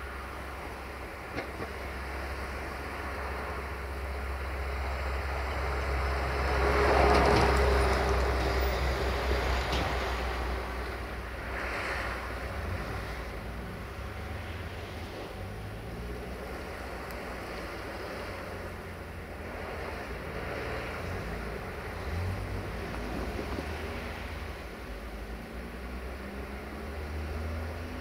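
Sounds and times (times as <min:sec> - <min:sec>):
steady low traffic rumble: 0:00.0 - 0:28.0.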